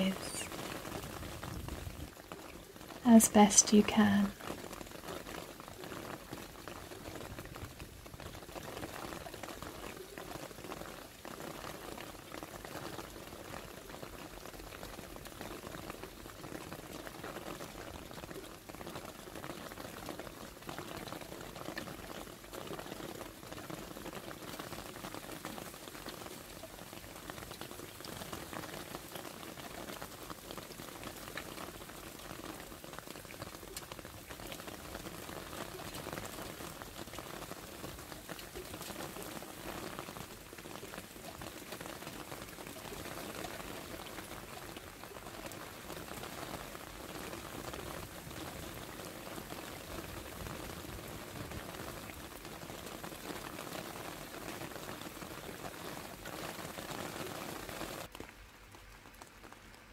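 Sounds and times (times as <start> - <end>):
rain falling on leaves and paving: 0.0 - 59.9.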